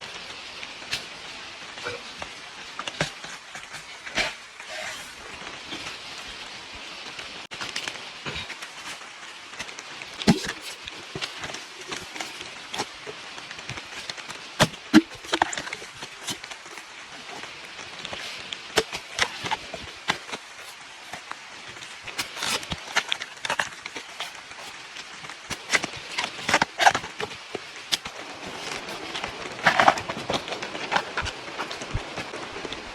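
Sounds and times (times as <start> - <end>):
rain pattering on leaves: 0.0 - 32.9.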